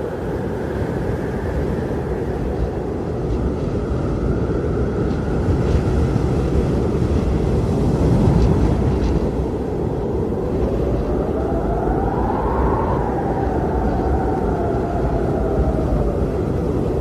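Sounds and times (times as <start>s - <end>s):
blizzard wind howling: 0.0s - 17.0s.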